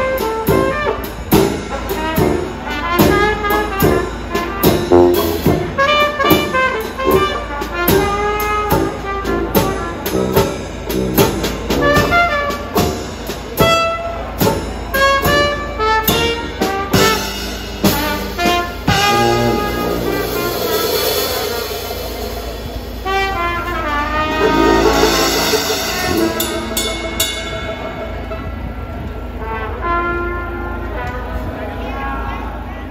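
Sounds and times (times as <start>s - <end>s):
trumpet lead: 0.0s - 31.6s
jazz band playing: 0.0s - 31.9s.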